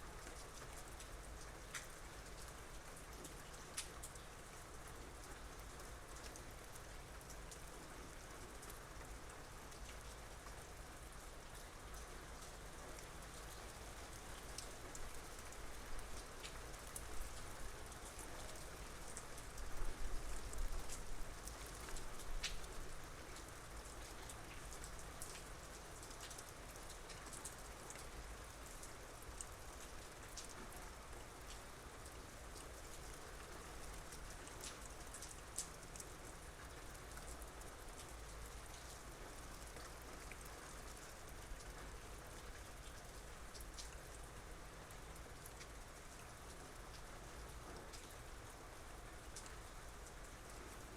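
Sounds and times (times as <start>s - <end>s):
raindrops ticking on surfaces: 0.0s - 50.9s
soft rain falling: 0.0s - 50.9s.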